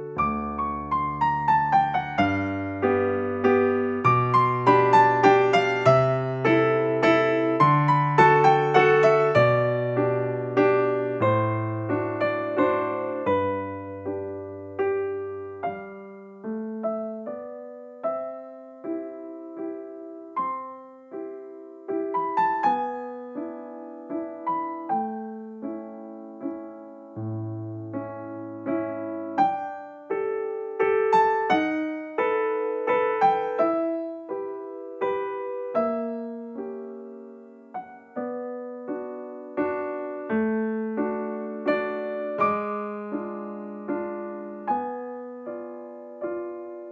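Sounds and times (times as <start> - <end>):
gentle solo piano piece: 0.0 - 46.9.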